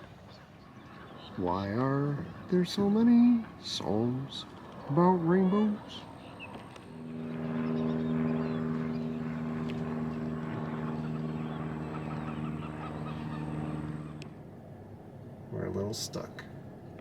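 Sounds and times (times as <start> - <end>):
birds calling faintly: 0.0 - 14.4
engine humming: 2.8 - 17.0.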